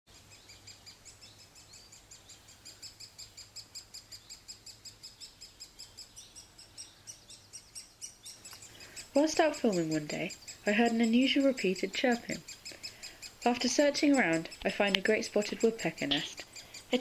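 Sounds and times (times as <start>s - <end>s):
bird chick high chirps: 0.1s - 17.0s.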